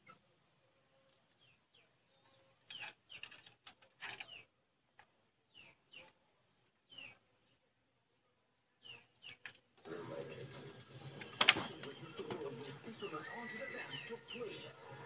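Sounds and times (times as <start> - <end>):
faint small birds chirping: 0.0 - 15.0.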